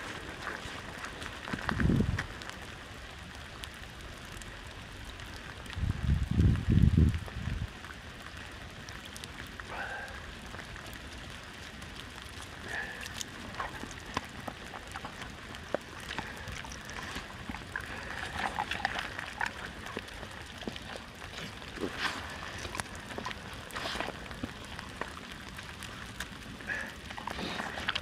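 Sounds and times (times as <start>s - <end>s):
light rain falling: 0.0s - 28.0s
raindrops tapping and ticking: 0.0s - 28.0s.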